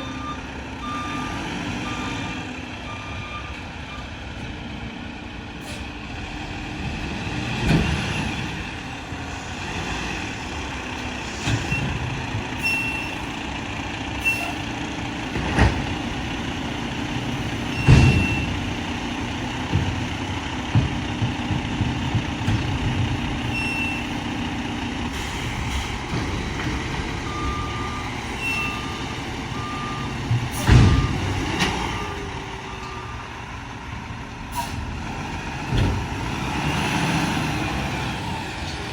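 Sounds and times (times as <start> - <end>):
garbage truck engine and hydraulics: 0.0 - 38.9.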